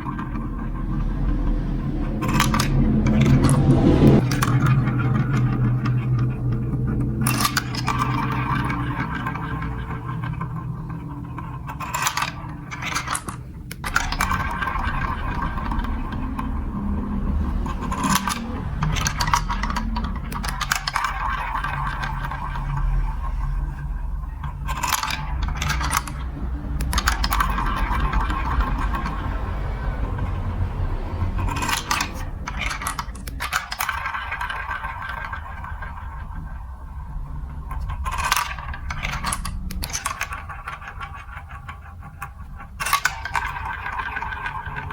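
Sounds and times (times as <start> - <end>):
marbles rolling: 0.0 - 3.6, 4.2 - 44.9
marbles clattering on plastic track: 4.2 - 29.6, 30.2 - 36.7, 37.5 - 44.9.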